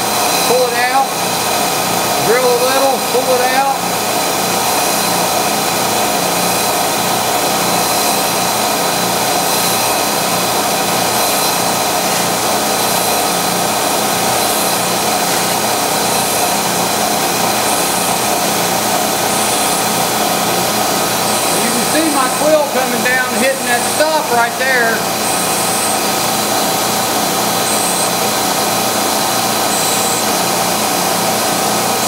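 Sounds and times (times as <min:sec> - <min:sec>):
drill bit cutting steel: 0:00.0 - 0:32.0
milling machine spindle running: 0:00.0 - 0:32.0.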